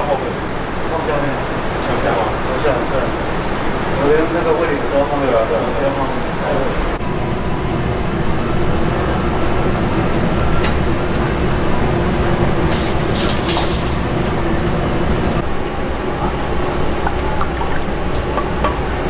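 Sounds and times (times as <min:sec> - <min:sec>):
kitchen rumble and hum: 0:00.0 - 0:19.0.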